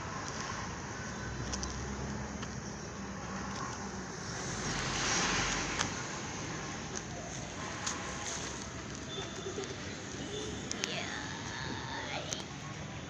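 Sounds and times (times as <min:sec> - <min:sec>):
vehicle passing: 0:00.0 - 0:11.9
street noise: 0:00.0 - 0:13.0.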